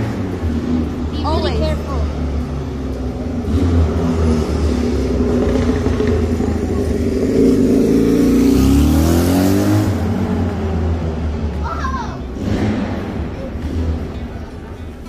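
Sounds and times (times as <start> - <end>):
vehicle engine accelerating: 0.0 - 11.6, 12.2 - 15.0.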